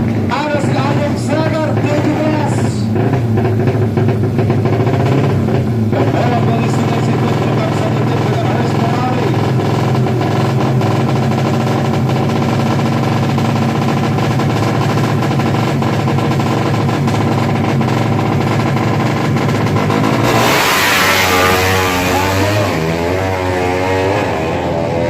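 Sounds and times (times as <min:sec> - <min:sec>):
motorcycle accelerating hard: 0:00.0 - 0:25.0
motorcycle engines running: 0:00.0 - 0:25.0.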